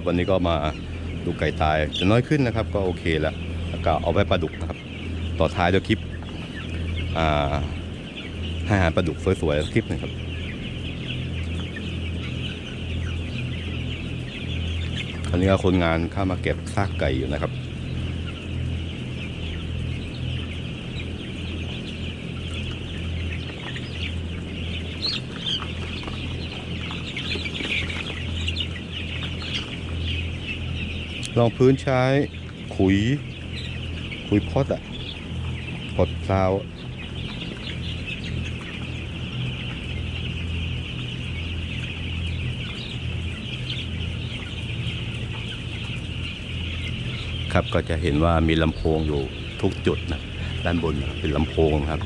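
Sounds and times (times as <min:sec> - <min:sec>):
chicks peeping and cheeping: 0:00.0 - 0:52.0
steady low hum: 0:00.0 - 0:52.0.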